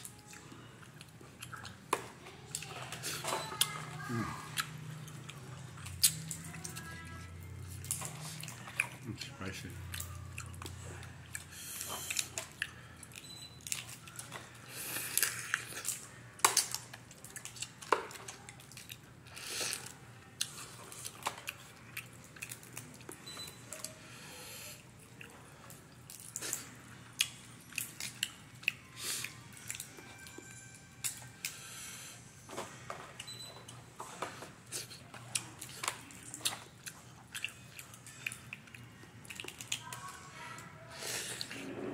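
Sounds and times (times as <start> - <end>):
sucking and chewing: 0.0 - 9.2, 9.8 - 32.2, 33.1 - 41.6.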